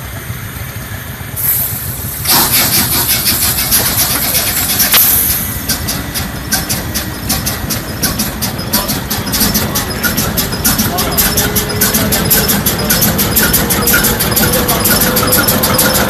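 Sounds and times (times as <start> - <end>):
diesel engine running: 0.0 - 16.0
engine cranking hiss: 0.4 - 16.0.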